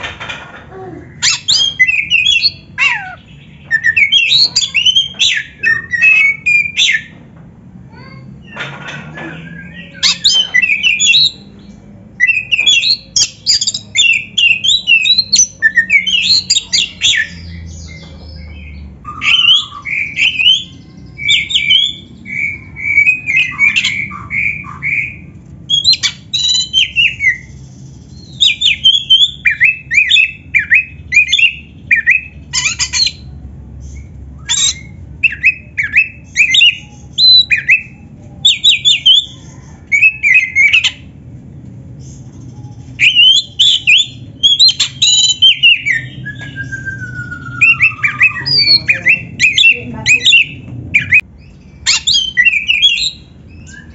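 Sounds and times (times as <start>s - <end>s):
magpie-robin singing: 1.1s - 7.2s, 9.3s - 41.2s, 41.9s - 53.9s.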